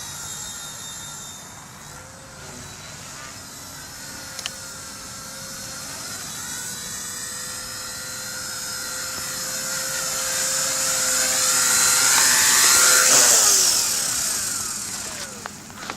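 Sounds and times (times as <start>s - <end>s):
rc helicopter motor whine: 0.0s - 15.9s.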